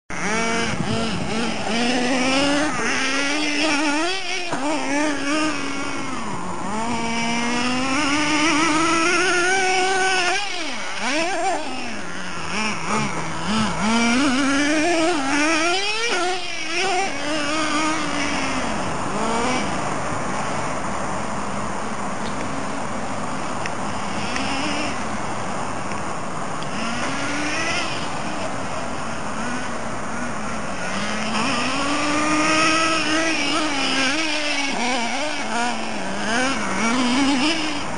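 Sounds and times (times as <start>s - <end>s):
toy truck engine revving: 0.1s - 19.9s, 23.8s - 25.2s, 26.6s - 37.9s.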